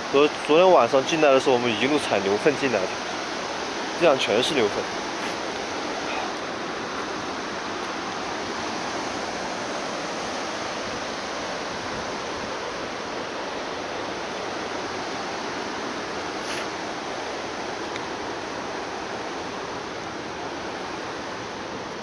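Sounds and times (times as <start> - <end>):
river rapids rushing over rocks: 0.0 - 22.0.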